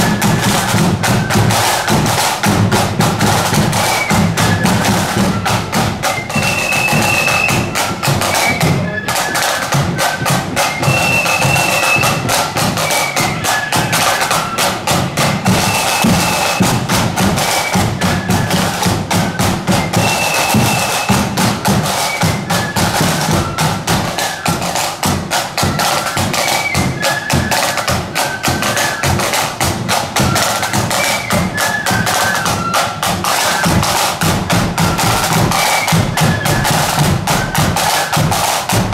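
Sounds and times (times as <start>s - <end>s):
flutes playing a melody: 0.0s - 38.9s
rapid snare drumming: 0.0s - 38.9s.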